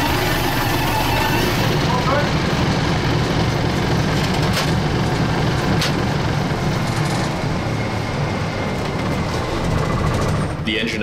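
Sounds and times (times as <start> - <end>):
diesel locomotive engine running: 0.0 - 11.0.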